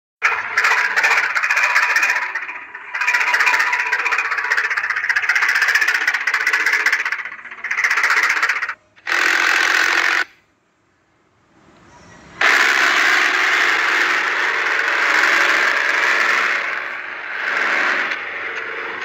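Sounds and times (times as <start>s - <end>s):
toy tractor motor rattling: 0.2s - 10.4s, 12.4s - 19.0s.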